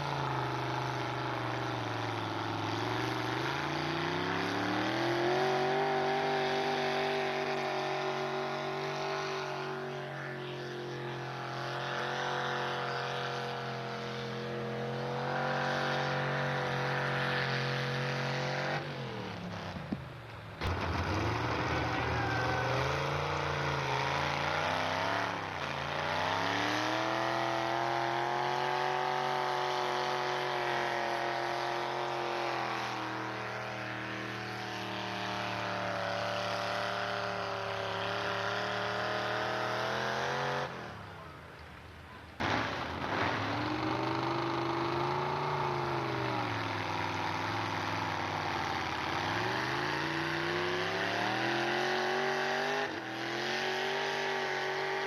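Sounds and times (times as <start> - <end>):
truck engine revving under load: 0.0 - 55.0.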